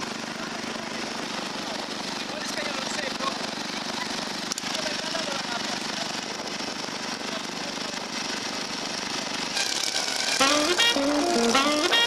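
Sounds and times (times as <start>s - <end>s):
riding lawnmower engine running: 0.0s - 12.0s.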